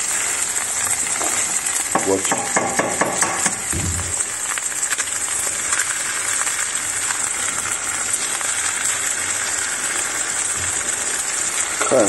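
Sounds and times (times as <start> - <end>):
sausage and eggs sizzling in oil: 0.0 - 12.0.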